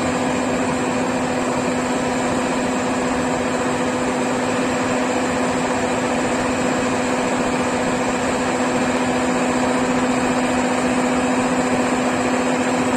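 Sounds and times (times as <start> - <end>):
combine harvester engine humming: 0.0 - 12.9.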